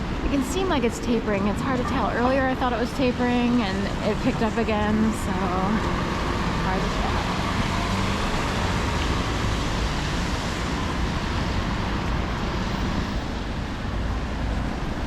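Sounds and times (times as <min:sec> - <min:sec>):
traffic on a snowy road: 0:00.0 - 0:15.0.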